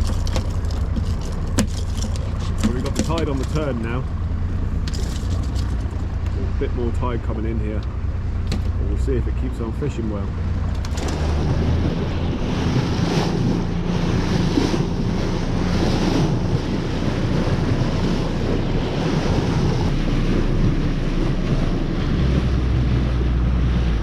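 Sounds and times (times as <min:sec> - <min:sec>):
low steady hum: 0:00.0 - 0:24.0
water slapping boat hull: 0:00.0 - 0:24.0
waves: 0:00.0 - 0:24.0
wind buffeting microphone: 0:00.0 - 0:24.0.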